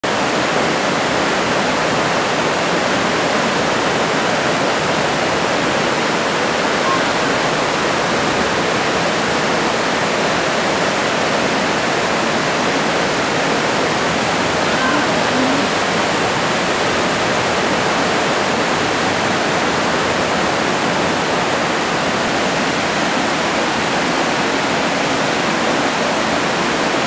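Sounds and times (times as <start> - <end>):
heavy rain: 0.0 - 27.0
storm water rushing down street: 0.0 - 27.0.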